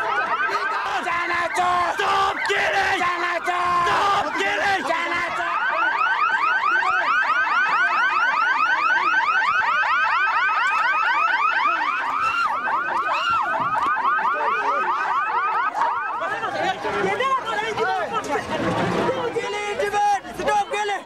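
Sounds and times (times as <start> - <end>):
electronic siren yelping: 0.0 - 18.4.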